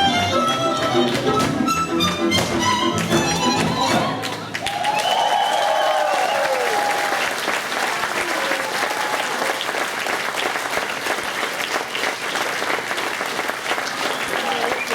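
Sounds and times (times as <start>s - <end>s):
audience clapping: 0.8s - 1.6s, 2.5s - 14.9s.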